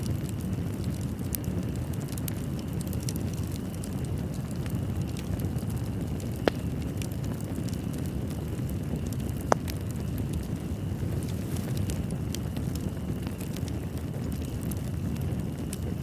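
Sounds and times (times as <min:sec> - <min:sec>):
fire crackling: 0:00.0 - 0:16.0
fire flames rumbling: 0:00.0 - 0:16.0
wood fire popping: 0:00.0 - 0:16.0.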